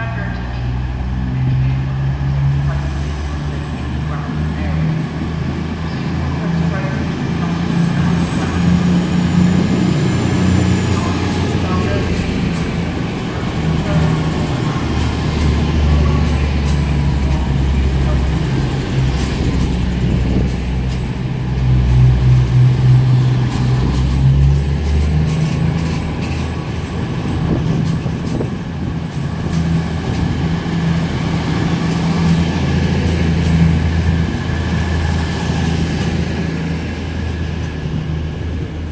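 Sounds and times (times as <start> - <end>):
train diesel engines droning: 0.0 - 38.9.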